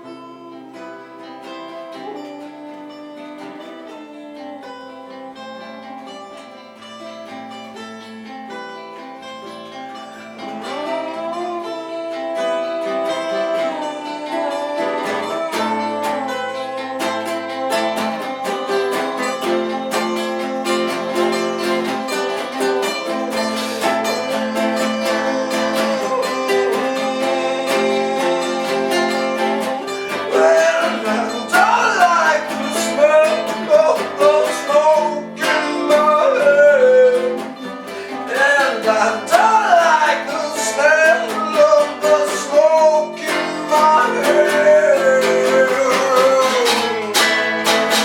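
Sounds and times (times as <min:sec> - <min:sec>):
guitar band music: 0:00.0 - 0:48.0
lead guitar bending pitch: 0:00.0 - 0:48.0.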